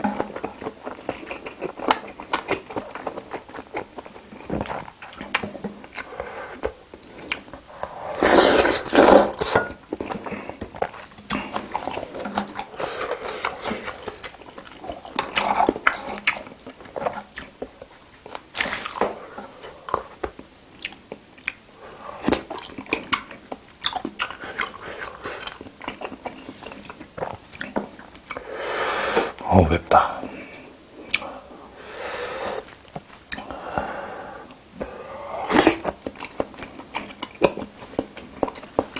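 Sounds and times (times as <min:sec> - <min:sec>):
person chewing and smacking: 0:00.0 - 0:28.5, 0:29.3 - 0:31.3, 0:32.6 - 0:38.9.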